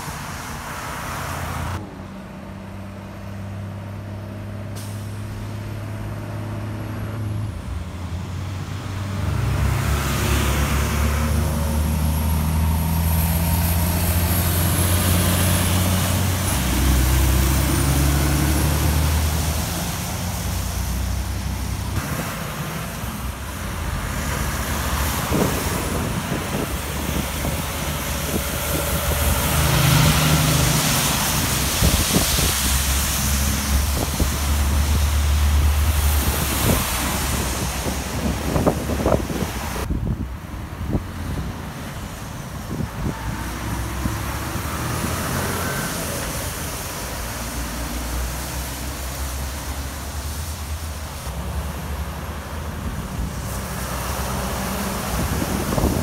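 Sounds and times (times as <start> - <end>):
diesel truck engine drone: 0.0 - 56.0
tyre hiss on wet road: 4.7 - 6.6, 8.5 - 56.0.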